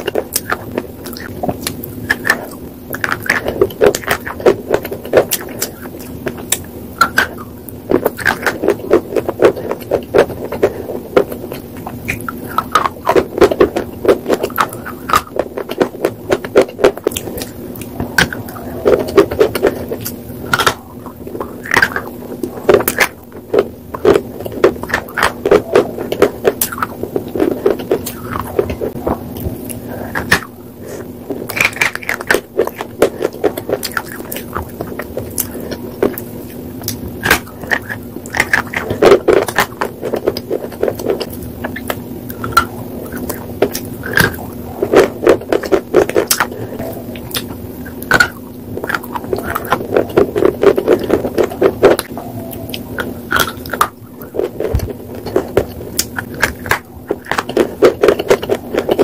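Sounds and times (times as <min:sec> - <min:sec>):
crunchy chewing of hard slate: 0:00.0 - 0:59.0
steady low hum: 0:00.0 - 0:59.0.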